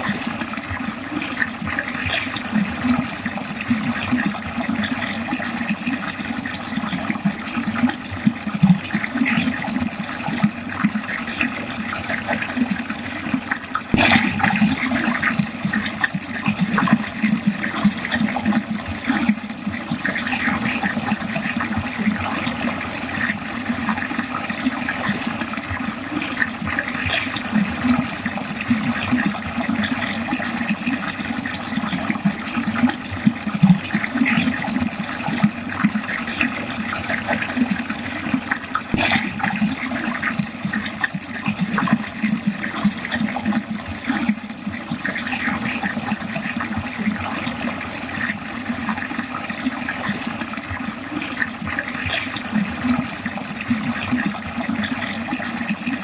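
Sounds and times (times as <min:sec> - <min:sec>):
water gurgling down a drain: 0:00.0 - 0:56.0.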